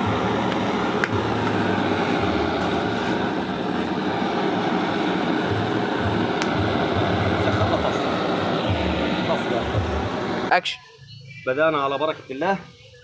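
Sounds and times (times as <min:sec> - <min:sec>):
flame rushing: 0:00.0 - 0:10.6.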